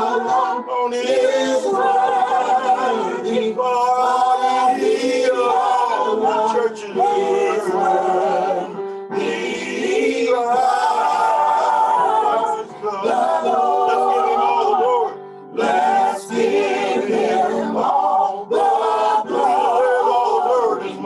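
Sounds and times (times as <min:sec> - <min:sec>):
group singing in harmony: 0:00.0 - 0:21.0.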